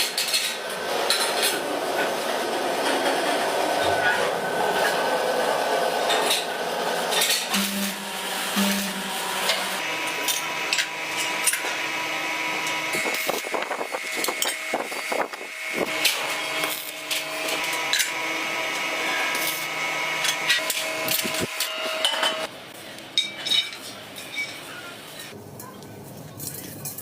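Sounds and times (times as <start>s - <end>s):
steady machine hum: 0.6s - 23.3s.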